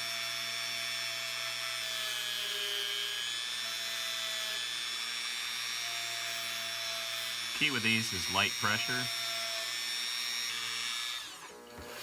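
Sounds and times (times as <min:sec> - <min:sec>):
rotary tool high whine: 0:00.2 - 0:12.0.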